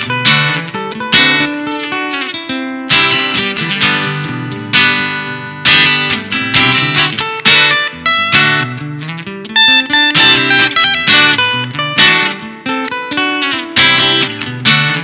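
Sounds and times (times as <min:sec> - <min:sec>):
acoustic guitar piece: 0:00.0 - 0:15.0.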